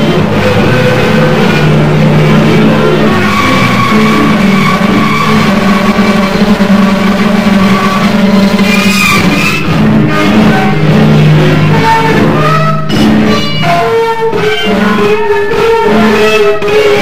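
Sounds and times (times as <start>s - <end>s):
instrumental soundtrack music: 0.0s - 17.0s.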